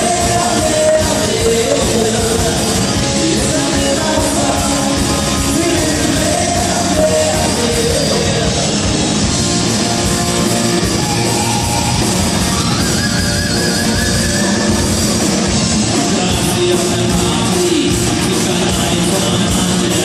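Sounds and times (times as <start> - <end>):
drums: 0.0 - 20.0
electric guitar: 0.0 - 20.0
rock band playing loud: 0.0 - 20.0.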